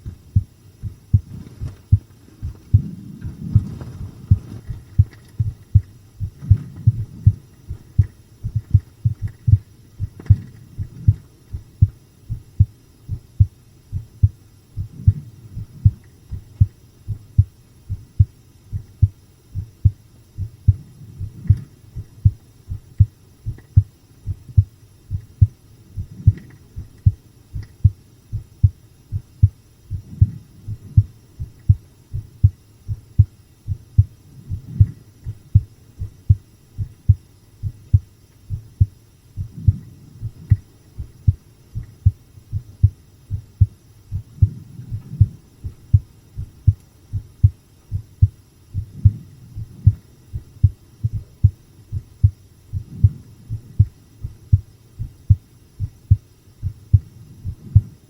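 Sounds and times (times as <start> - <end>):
heartbeat thumps: 0.0 - 58.0.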